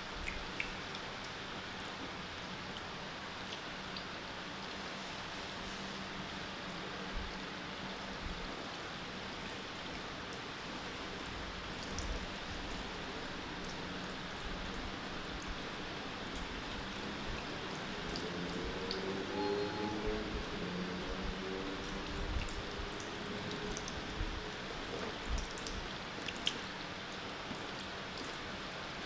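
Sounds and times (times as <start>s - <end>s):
steady hiss like running water: 0.0s - 29.0s.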